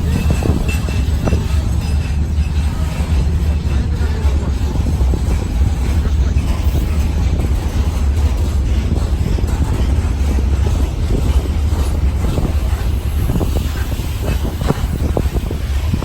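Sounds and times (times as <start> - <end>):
train rumbling past: 0.0 - 16.0
wheels clicking over rails: 0.0 - 16.0.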